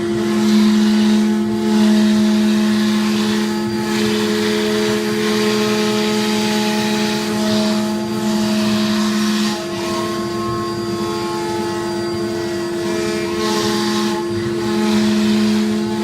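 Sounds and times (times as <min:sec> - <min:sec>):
router spindle whine: 0:00.0 - 0:16.0.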